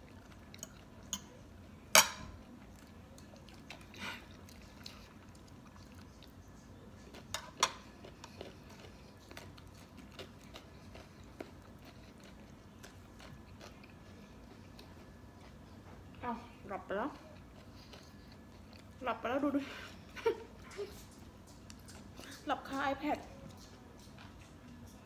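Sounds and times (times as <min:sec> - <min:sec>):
chewing: 0:00.0 - 0:01.7, 0:02.3 - 0:16.2, 0:17.0 - 0:19.0, 0:19.6 - 0:25.0.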